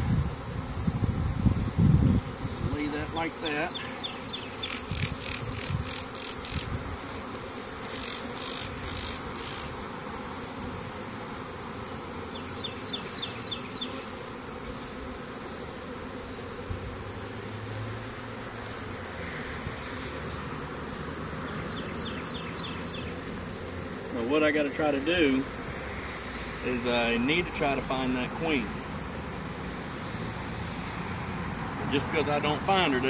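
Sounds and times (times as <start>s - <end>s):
bee swarm buzzing: 0.0s - 33.0s.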